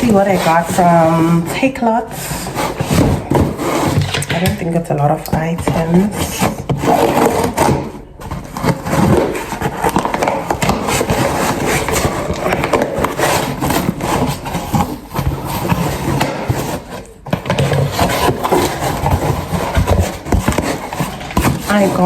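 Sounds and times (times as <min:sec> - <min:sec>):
packaging rustling and scraping: 0:00.0 - 0:22.0.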